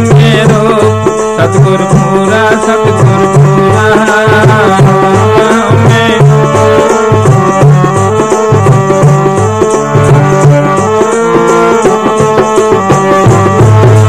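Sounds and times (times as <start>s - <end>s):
sustained melody line: 0.0s - 14.0s
tabla drumming: 0.0s - 14.0s.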